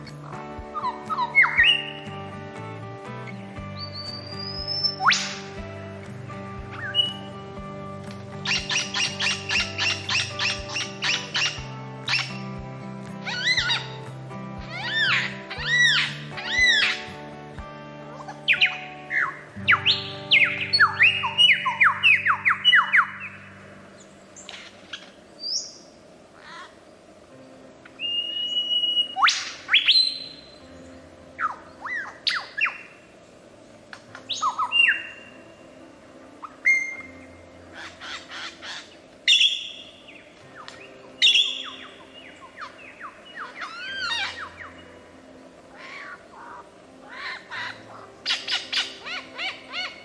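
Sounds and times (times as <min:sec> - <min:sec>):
birds chirping and whistling: 0:00.0 - 0:02.3, 0:03.3 - 0:17.3, 0:18.1 - 0:26.6, 0:28.0 - 0:33.0, 0:34.1 - 0:35.5, 0:36.4 - 0:45.0, 0:45.7 - 0:50.0
soft background music: 0:00.0 - 0:50.0.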